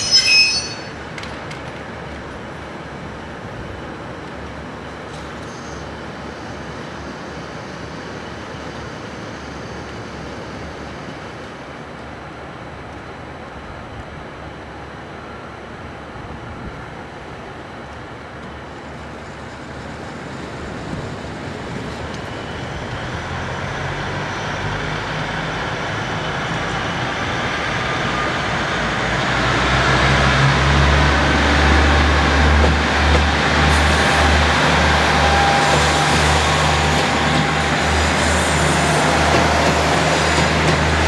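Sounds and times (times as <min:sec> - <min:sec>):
diesel train engine rumble: 0:00.0 - 0:41.0.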